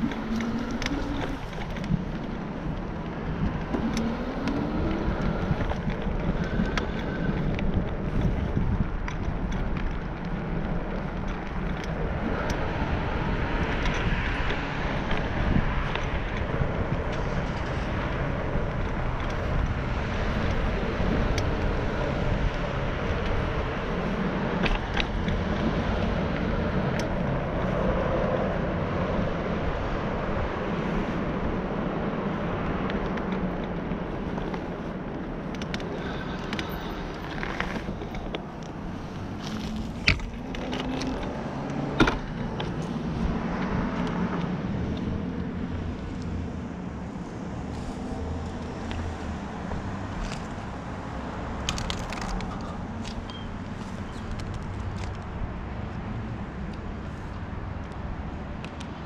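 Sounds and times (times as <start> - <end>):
wheels rolling on asphalt: 0.0 - 59.0
wind rush on microphone: 0.0 - 59.0.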